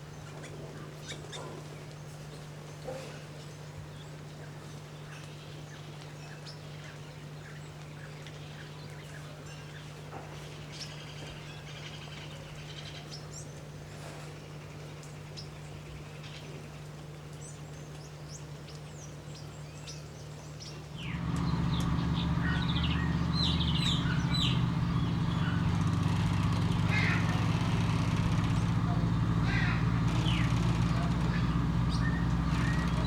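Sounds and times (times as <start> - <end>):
birds chirping: 0.0 - 33.0
low mechanical hum: 0.0 - 33.0.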